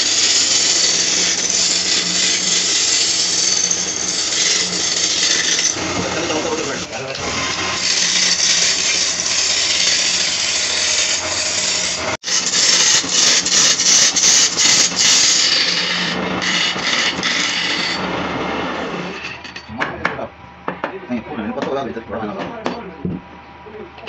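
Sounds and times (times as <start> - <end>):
tool scraping wood on a lathe: 0.0 - 19.6.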